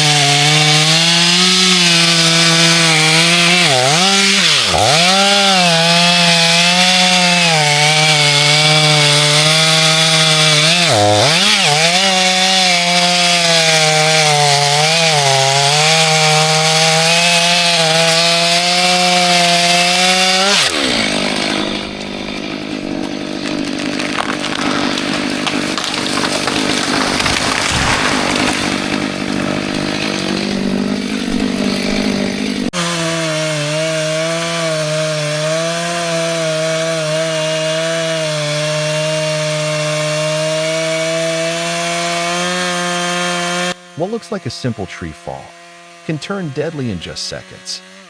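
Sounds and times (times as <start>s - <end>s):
chainsaw cutting wood: 0.0s - 48.0s
chainsaw engine running high: 0.0s - 48.0s.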